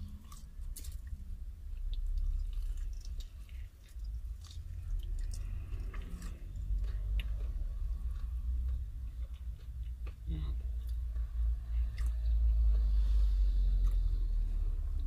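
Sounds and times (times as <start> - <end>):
chewing crispy food: 0.0 - 15.0
steady low rumble: 0.0 - 15.0.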